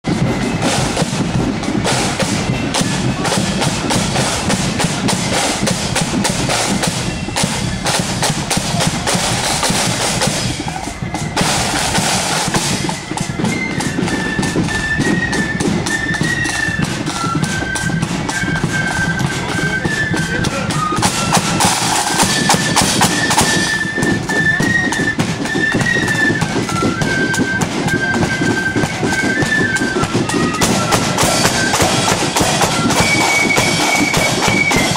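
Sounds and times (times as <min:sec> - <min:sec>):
side drums and bass drum: 0:00.0 - 0:34.9
flutes playing high melody: 0:00.1 - 0:34.9.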